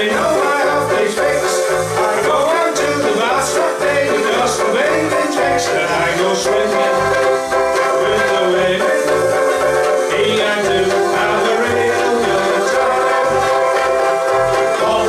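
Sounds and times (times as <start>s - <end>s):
banjo ukuleles strummed: 0.0s - 15.0s
pulsing bass line: 0.0s - 15.0s.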